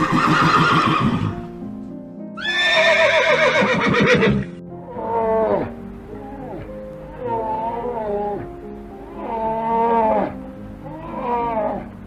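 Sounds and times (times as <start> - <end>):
horse neighing: 0.0 - 1.5, 2.4 - 5.7, 6.3 - 8.5, 9.1 - 11.9
background music: 0.0 - 12.0.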